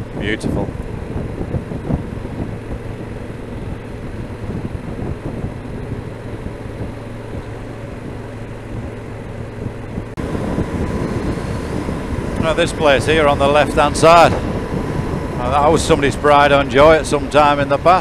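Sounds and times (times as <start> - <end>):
buffeting wind noise: 0.0 - 18.0
motorcycle engine cruising: 0.0 - 18.0.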